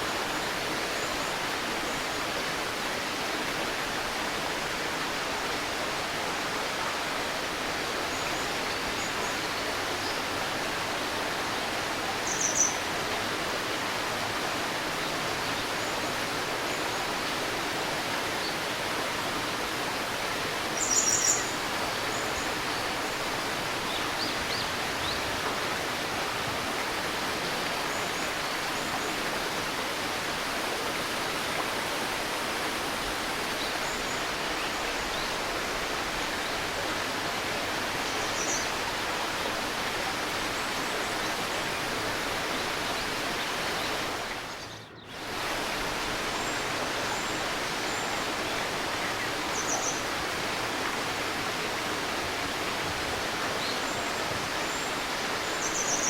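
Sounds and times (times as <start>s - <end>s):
shallow river babbling: 0.0s - 56.0s.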